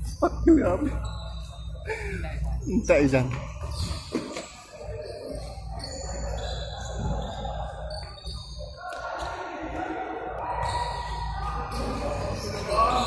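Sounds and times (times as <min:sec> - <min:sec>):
echoing hall background: 0:00.0 - 0:13.0.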